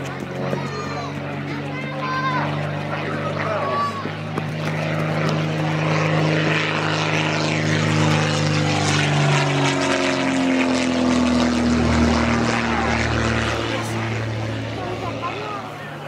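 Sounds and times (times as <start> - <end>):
light aircraft flying overhead: 0.0 - 16.0.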